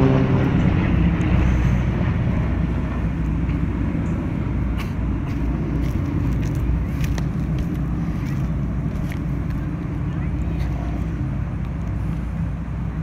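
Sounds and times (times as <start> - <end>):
distant propeller planes droning: 0.0 - 13.0.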